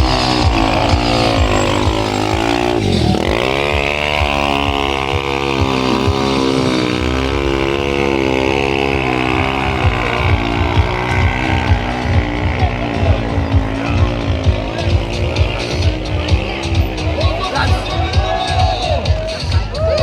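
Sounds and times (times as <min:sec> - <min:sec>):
motorcycle engine revving hard: 0:00.0 - 0:20.0.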